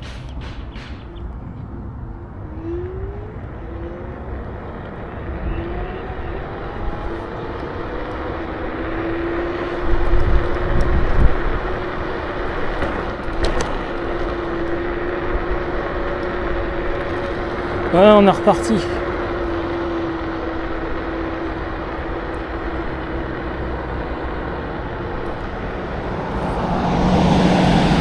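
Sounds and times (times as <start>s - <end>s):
wind rumble on microphone: 0.0s - 17.9s, 19.8s - 28.0s
electric scooter motor whining: 2.1s - 28.0s.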